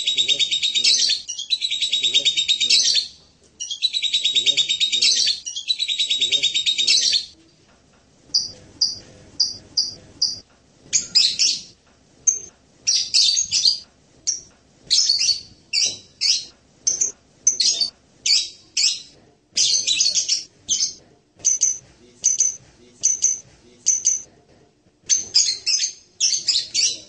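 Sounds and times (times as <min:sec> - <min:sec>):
parrot trills and chirps: 0:00.0 - 0:07.4, 0:08.4 - 0:24.3, 0:25.1 - 0:27.0.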